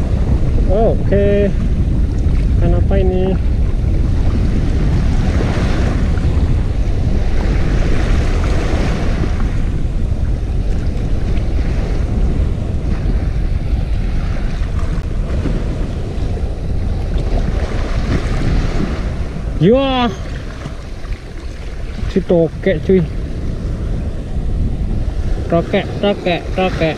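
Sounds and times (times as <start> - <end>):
waves washing on stony shore: 0.0 - 26.9
wind buffeting microphone: 0.0 - 26.9.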